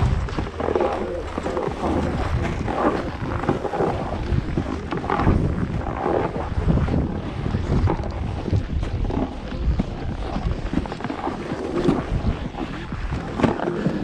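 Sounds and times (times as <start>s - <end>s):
skis sliding on snow: 0.0s - 14.0s
wind buffeting microphone: 0.0s - 14.0s.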